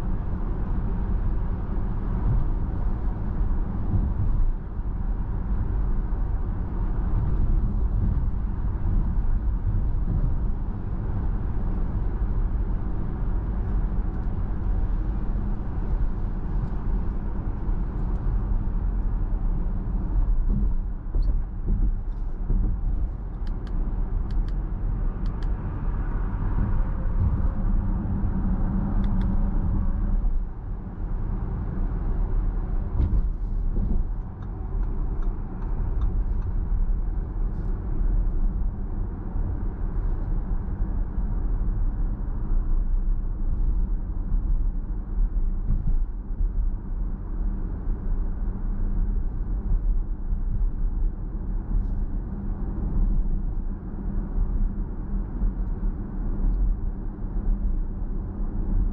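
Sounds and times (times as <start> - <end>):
road and tyre rumble in car: 0.0 - 58.9.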